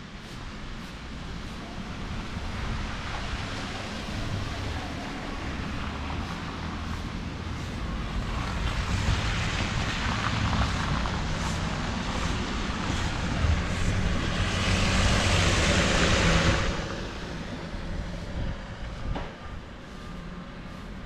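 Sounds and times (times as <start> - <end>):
tyre hiss on slushy road: 0.0 - 18.4
vehicle engines running: 0.0 - 21.0.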